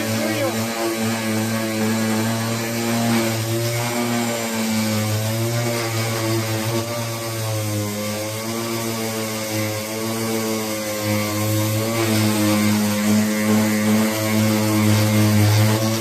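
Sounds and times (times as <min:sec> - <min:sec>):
power tool motor humming: 0:00.0 - 0:16.0.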